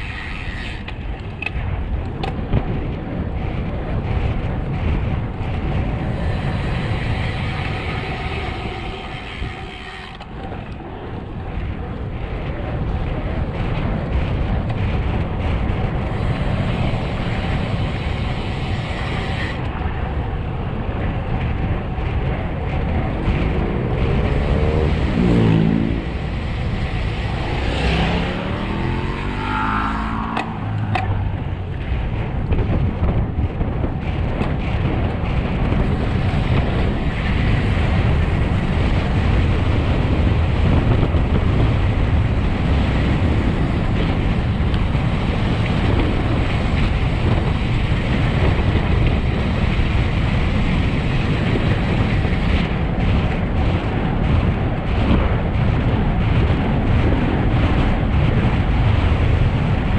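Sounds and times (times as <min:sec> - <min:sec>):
bike tyre noise: 0:00.0 - 0:59.9
vehicles passing: 0:00.0 - 0:59.9
wind on microphone: 0:00.0 - 0:59.9.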